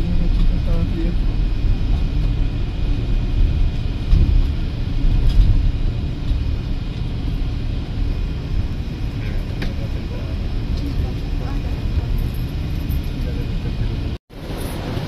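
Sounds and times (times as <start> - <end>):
bus engine and tyre rumble: 0.0 - 15.0.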